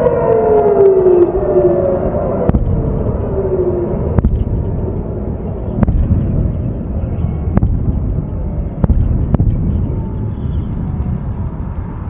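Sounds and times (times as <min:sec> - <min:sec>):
distant explosive bangs: 0:00.0 - 0:12.0
faint air-raid siren wailing: 0:00.0 - 0:12.0
steady low rumble: 0:00.0 - 0:12.0.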